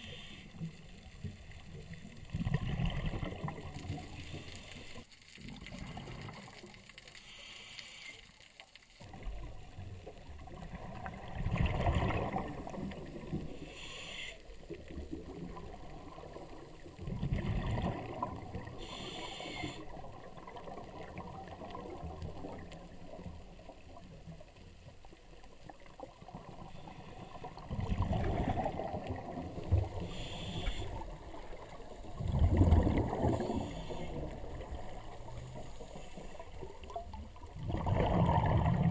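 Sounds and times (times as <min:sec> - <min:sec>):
exhaled bubbles rumbling underwater: 0:00.0 - 0:07.0, 0:09.0 - 0:38.9
steady underwater hiss: 0:00.0 - 0:38.9.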